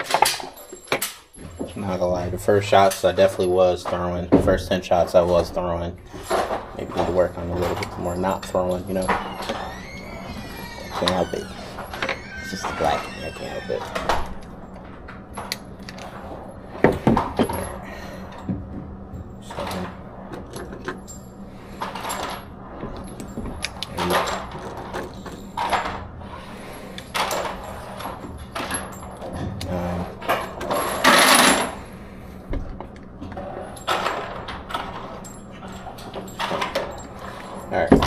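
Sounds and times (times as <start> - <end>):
low hum: 0.8 - 38.0.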